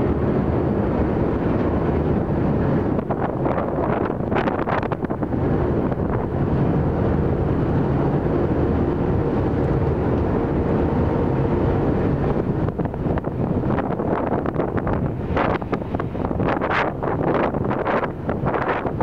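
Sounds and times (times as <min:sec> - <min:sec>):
ferry engine drone: 0:00.0 - 0:19.0
wind buffeting microphone: 0:00.0 - 0:19.0.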